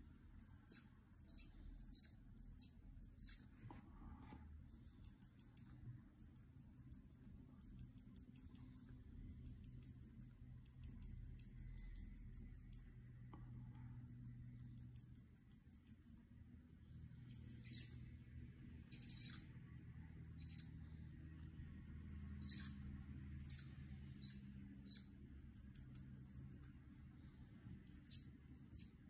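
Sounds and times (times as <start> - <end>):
marker nib squeaking on paper: 0.4 - 3.8, 4.6 - 13.1, 14.0 - 29.0.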